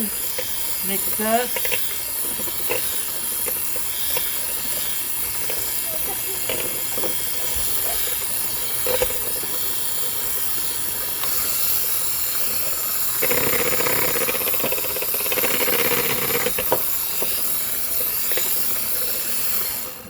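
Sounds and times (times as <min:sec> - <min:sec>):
electric hand mixer whining: 0:00.0 - 0:20.0.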